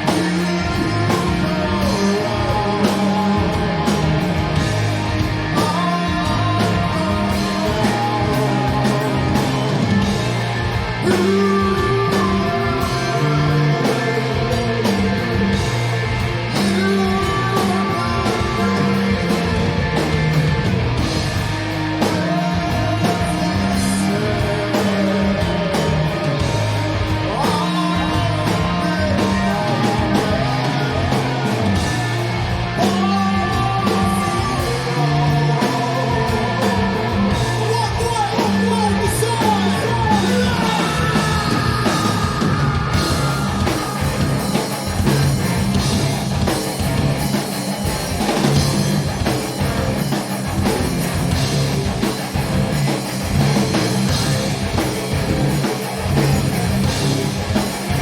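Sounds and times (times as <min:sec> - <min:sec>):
person singing and yelling: 0:00.0 - 0:47.6
heavy rock band playing: 0:00.0 - 0:58.0.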